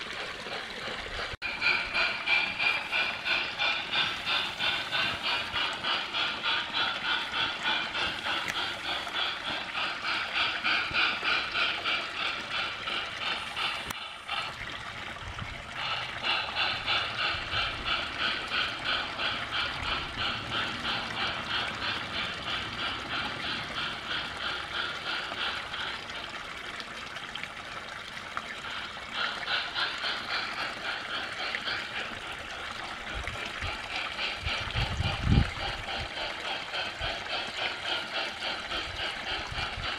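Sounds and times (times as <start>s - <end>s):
model steam locomotive chuffing: 0.0s - 39.9s.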